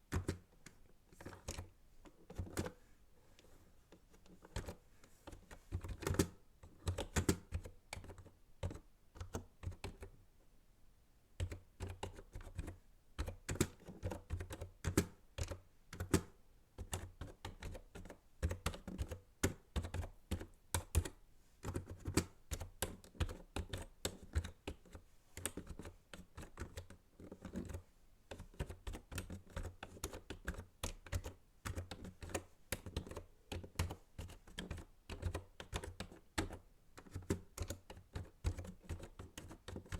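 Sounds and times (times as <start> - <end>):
typing on computer keyboard: 0.1 - 2.8, 4.2 - 10.2, 11.4 - 39.9.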